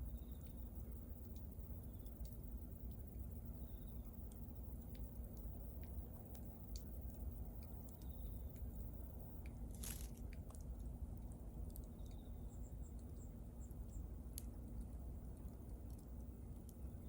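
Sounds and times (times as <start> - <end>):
bonfire low rumble: 0.0 - 17.0.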